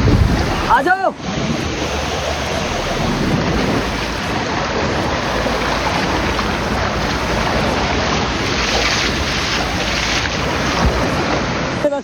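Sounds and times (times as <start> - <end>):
wind on microphone: 0.0 - 11.8.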